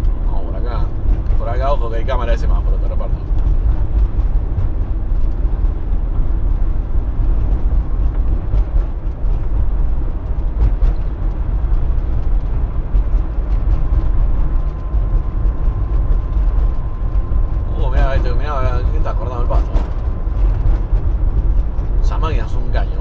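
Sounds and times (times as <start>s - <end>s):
engine and tyre rumble: 0.0s - 23.0s
light knocks and rattles: 0.0s - 23.0s.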